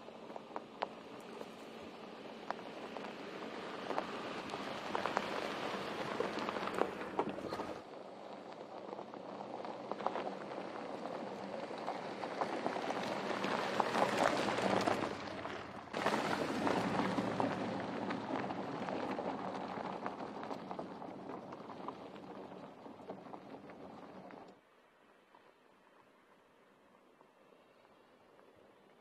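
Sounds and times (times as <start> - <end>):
car engine running: 0.0 - 24.5
tyres crunching over gravel: 0.0 - 24.5.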